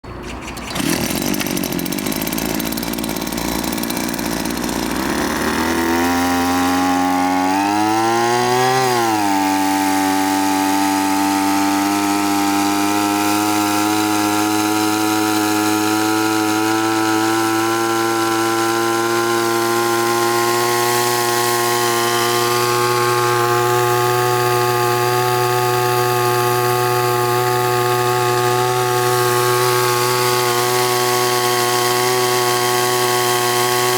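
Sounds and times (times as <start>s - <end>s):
two-stroke sprayer engine running: 0.0s - 33.9s.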